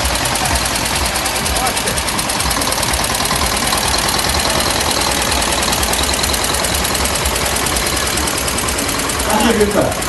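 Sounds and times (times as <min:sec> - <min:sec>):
diesel tractor engine knocking: 0:00.0 - 0:10.0.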